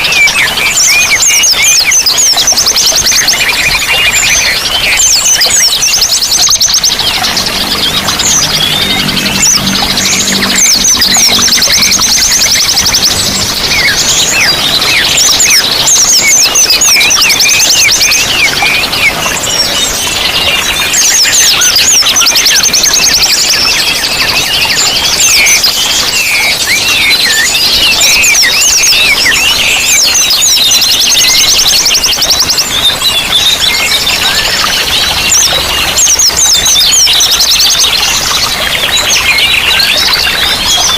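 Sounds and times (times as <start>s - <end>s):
songbirds chattering trills and chirps: 0.0s - 40.9s.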